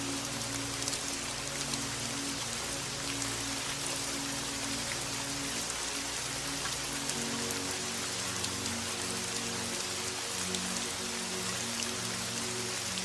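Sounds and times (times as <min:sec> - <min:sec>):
raindrops pattering: 0:00.0 - 0:13.0
soft sustained low music: 0:00.0 - 0:13.0.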